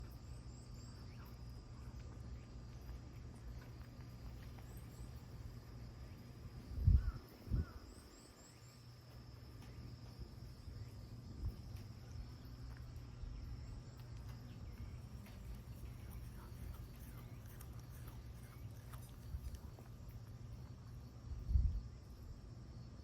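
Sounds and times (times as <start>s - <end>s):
faint chirps: 0.0s - 23.0s
insects droning: 0.0s - 23.0s.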